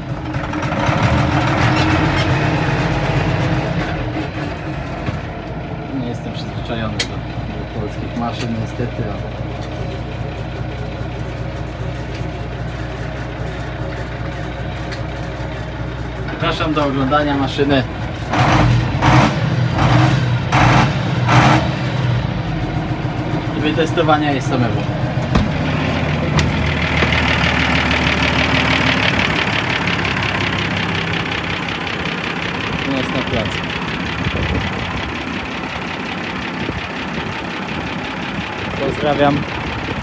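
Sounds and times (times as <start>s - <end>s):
diesel tractor engine running: 0.0s - 40.0s.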